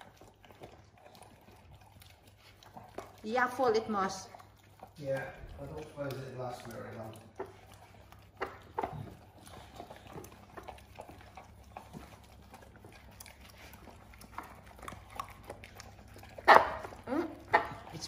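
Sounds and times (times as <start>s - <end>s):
dogs chewing: 0.0s - 18.0s
dogs lapping: 0.0s - 18.0s.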